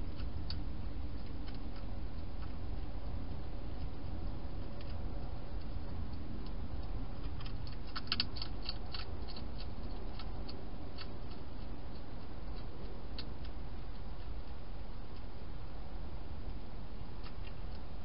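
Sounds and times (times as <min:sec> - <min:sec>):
hedgehog crunching dry food: 0:00.0 - 0:18.0
low background hiss: 0:00.0 - 0:18.0.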